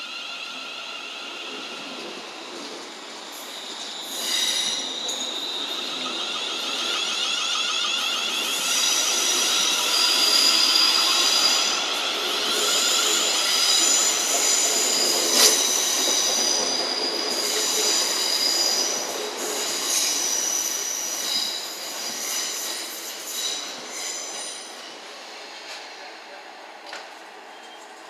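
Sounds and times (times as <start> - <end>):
train wheels squealing on rails: 0.0 - 28.0.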